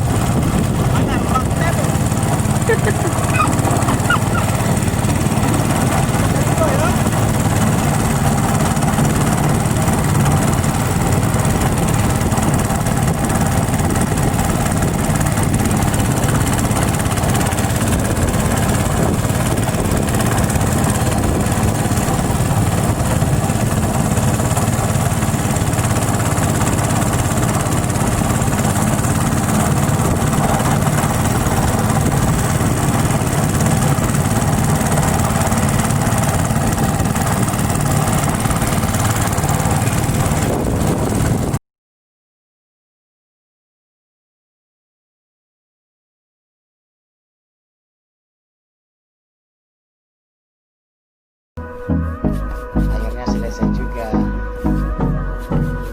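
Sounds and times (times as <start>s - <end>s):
small engine running: 0.0s - 41.6s, 51.6s - 55.9s.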